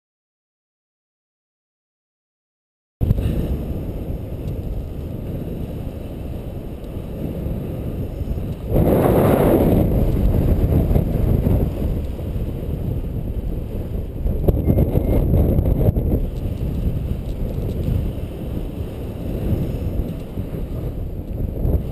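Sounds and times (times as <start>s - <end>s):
wind buffeting microphone: 3.0s - 21.9s.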